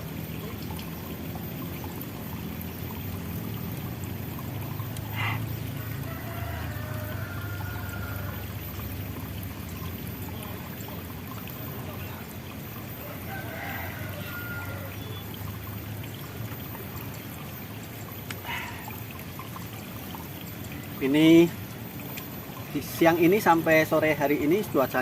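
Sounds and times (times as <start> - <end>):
running water trickling: 0.0 - 25.0.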